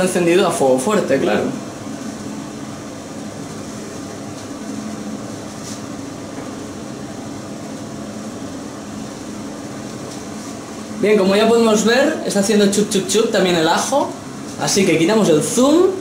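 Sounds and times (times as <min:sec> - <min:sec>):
extractor hood fan humming: 0:00.0 - 0:16.0.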